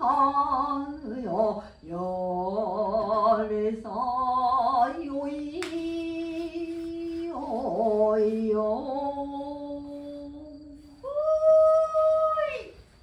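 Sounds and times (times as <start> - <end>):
woman singing with vibrato: 0.0 - 13.0.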